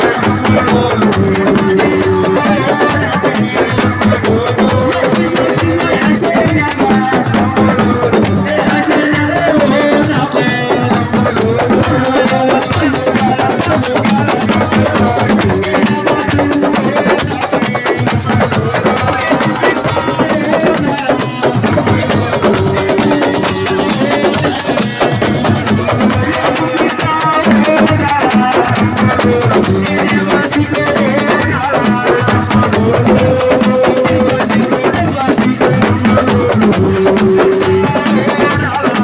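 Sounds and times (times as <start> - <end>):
person singing: 0.0 - 39.0.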